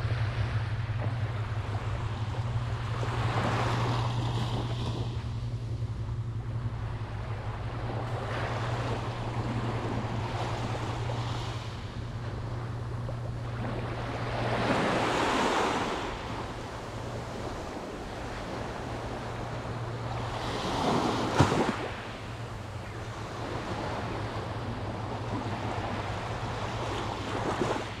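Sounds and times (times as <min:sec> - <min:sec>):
steady low hum: 0:00.0 - 0:28.0
waves washing up beach: 0:00.0 - 0:28.0.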